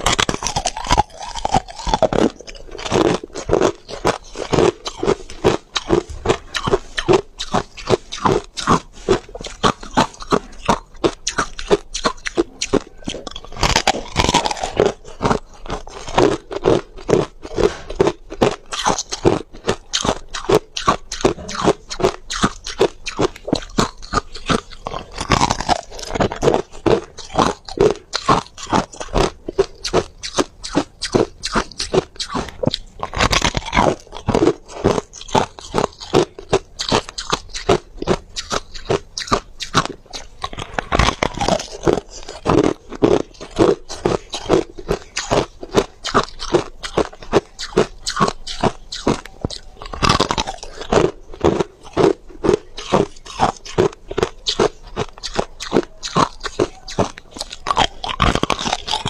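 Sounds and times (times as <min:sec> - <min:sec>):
person chewing ice crunches: 0:00.0 - 0:59.0.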